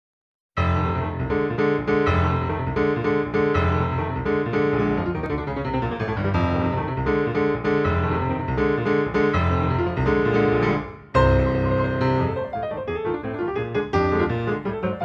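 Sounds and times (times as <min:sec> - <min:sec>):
piano music: 0:00.6 - 0:15.0.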